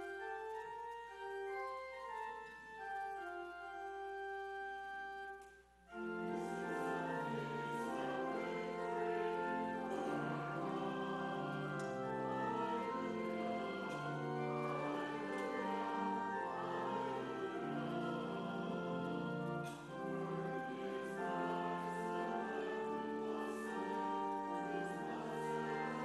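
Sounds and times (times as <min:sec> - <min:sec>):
church organ chords: 0:00.0 - 0:26.0.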